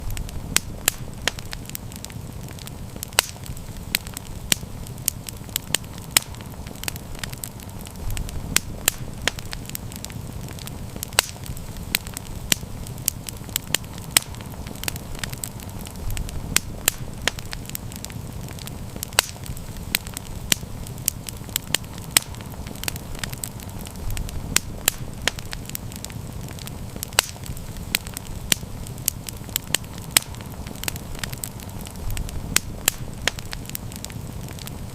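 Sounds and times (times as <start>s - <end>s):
campfire crackling: 0.0s - 34.9s
low rush of flame: 0.0s - 34.9s.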